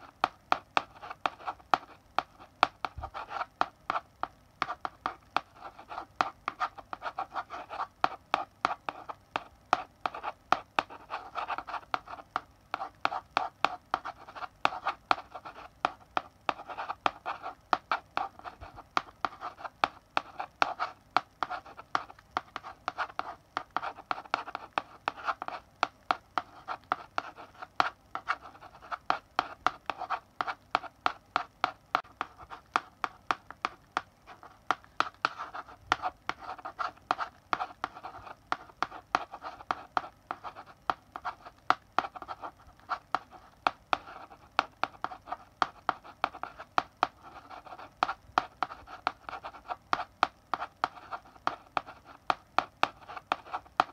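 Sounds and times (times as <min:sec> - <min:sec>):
chalk writing on blackboard: 0:00.0 - 0:53.9.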